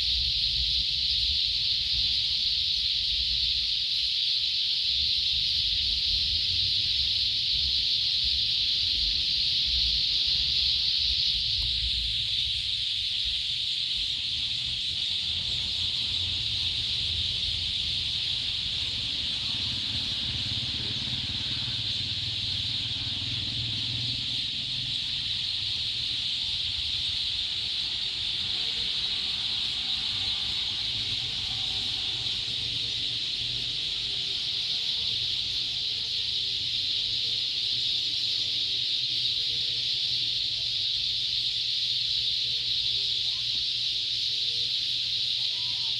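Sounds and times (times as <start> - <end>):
flock of birds calling: 7.0 - 45.9.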